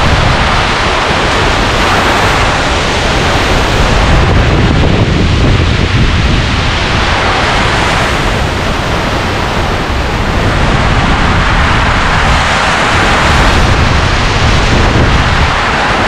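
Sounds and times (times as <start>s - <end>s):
heavy rain: 0.0s - 16.0s
strong wind: 0.0s - 16.0s
wind buffeting microphone: 0.0s - 16.0s.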